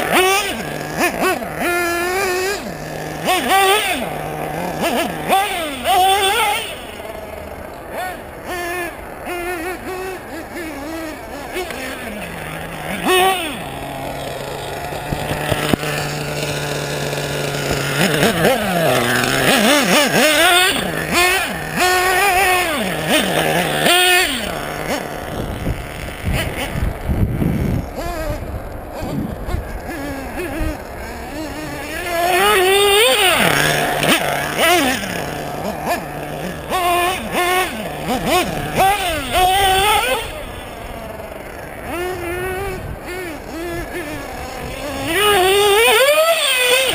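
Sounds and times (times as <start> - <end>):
model buggy nitro engine revving: 0.0 - 46.9.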